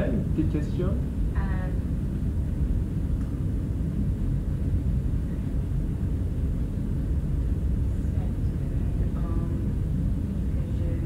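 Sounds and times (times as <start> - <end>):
classroom background rumble: 0.0 - 11.0.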